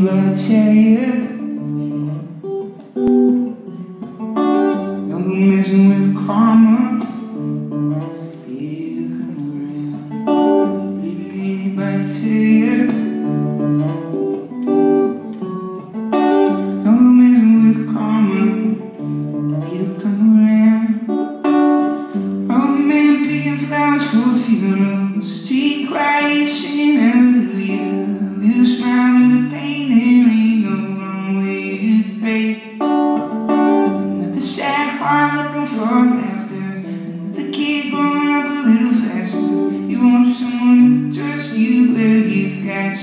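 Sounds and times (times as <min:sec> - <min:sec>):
man singing: 0:00.0 - 0:03.2, 0:04.4 - 0:13.8, 0:16.1 - 0:43.0
acoustic guitar strummed: 0:00.0 - 0:43.0.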